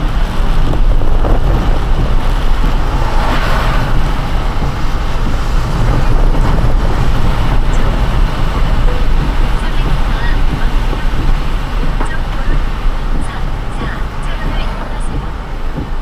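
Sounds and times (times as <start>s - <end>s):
tyres rumbling on road: 0.0s - 16.0s
water hissing under tyres: 0.0s - 16.0s.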